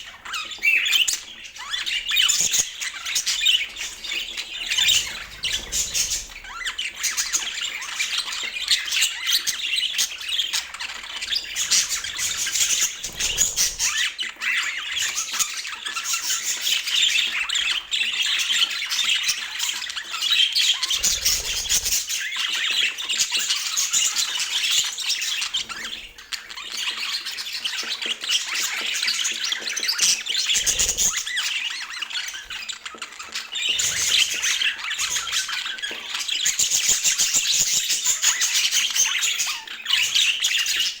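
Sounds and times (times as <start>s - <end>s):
budgerigars chattering: 0.0s - 41.0s.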